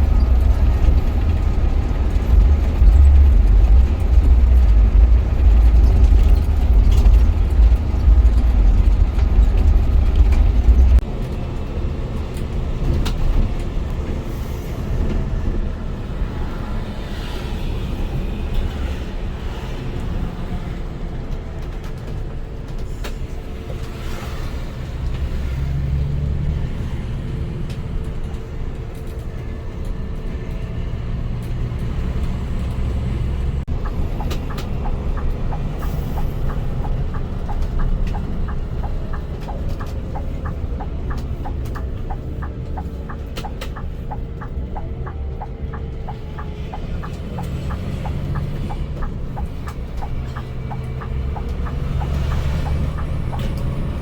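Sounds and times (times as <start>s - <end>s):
bus engine rumble: 0.0s - 54.0s
road noise: 0.0s - 54.0s.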